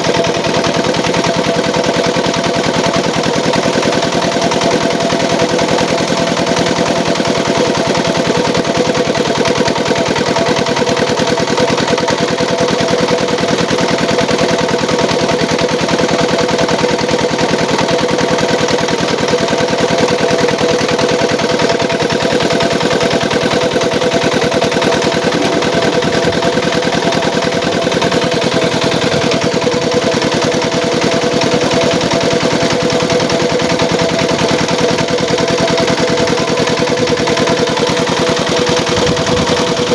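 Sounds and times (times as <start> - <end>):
machine engine chugging: 0.0 - 39.9.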